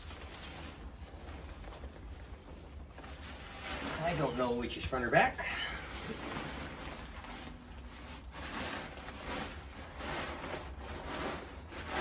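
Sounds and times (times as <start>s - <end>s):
fabric rustling and swishing: 0.0s - 12.0s.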